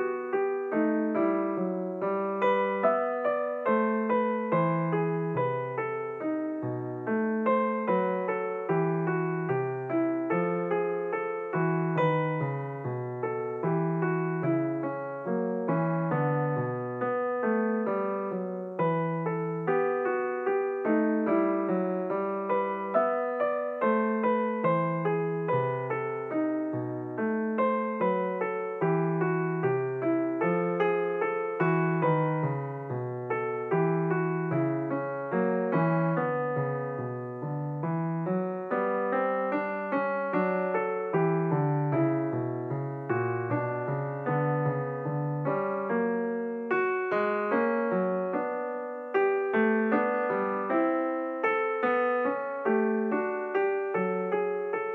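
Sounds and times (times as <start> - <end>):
gentle piano music: 0.0 - 54.9.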